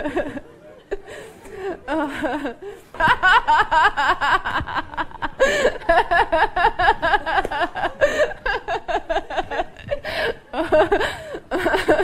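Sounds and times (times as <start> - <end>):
hearty human laughter: 0.0 - 12.0.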